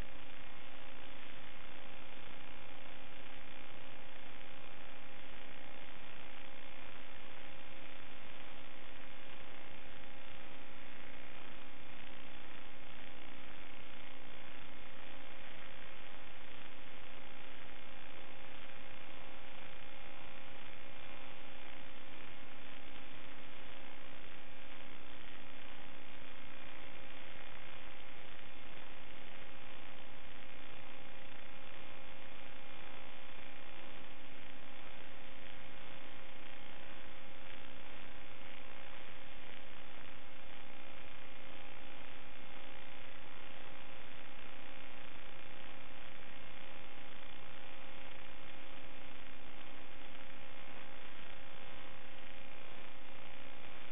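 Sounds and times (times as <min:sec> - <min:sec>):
electrical hum over hiss: 0:00.0 - 0:53.9.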